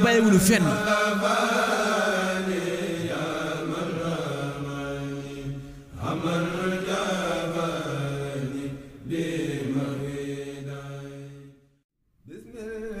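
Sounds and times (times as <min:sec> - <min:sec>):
voices chanting: 0:00.0 - 0:11.3.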